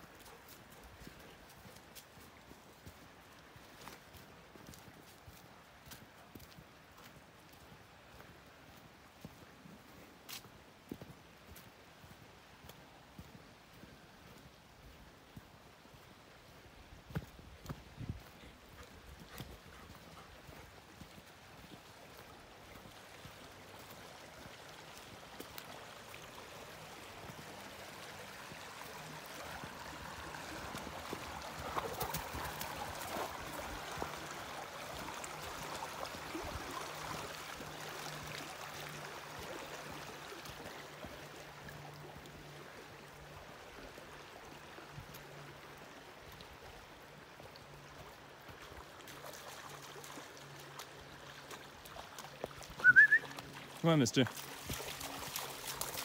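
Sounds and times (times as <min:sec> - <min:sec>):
shallow creek flowing: 0:00.0 - 0:56.0.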